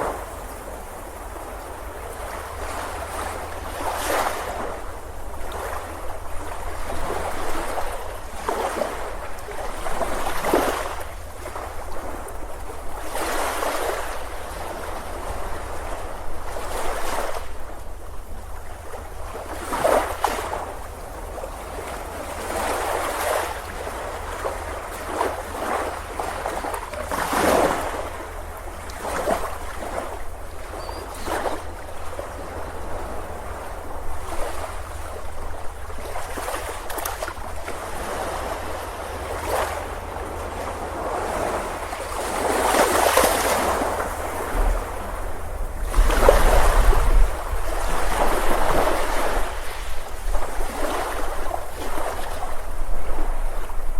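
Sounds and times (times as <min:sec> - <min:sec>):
ocean surf breaking on beach: 0:00.0 - 0:53.9.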